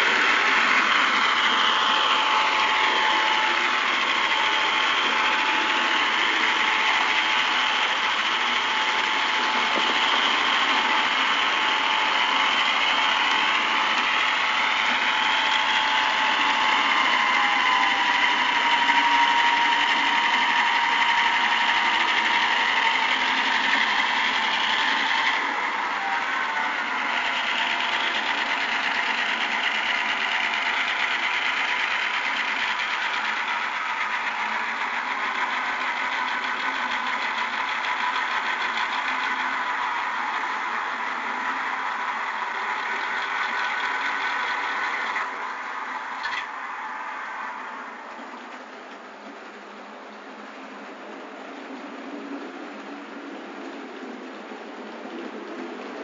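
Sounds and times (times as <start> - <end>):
model train motor whining: 0.0 - 49.7.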